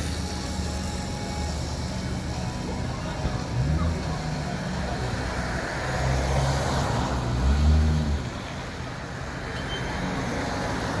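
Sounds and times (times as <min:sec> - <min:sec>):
traffic road noise hum: 0:00.0 - 0:11.0.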